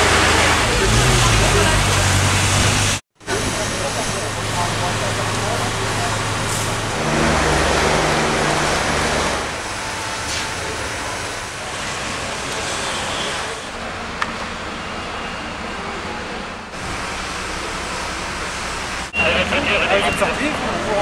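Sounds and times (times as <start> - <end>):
fire engine motors running: 0.0 - 21.0.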